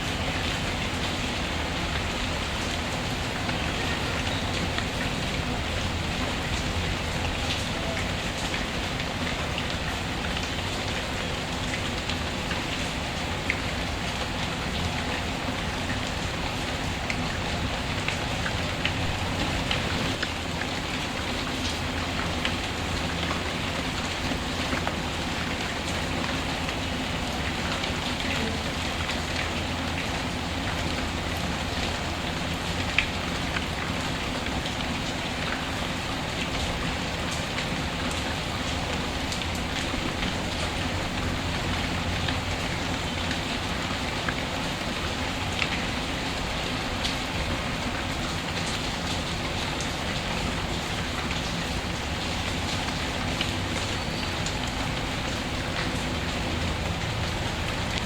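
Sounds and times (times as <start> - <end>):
steady rain on a surface: 0.0 - 58.0.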